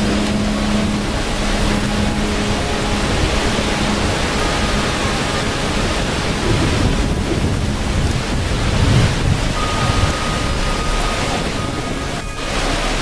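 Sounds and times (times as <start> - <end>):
low rumble: 0.0 - 13.0
rush of falling water: 0.0 - 13.0.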